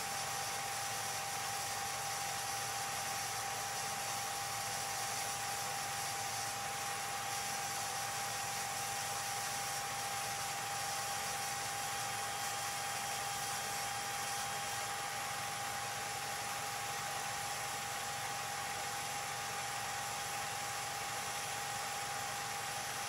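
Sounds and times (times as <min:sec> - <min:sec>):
film projector whirring: 0:00.0 - 0:23.0.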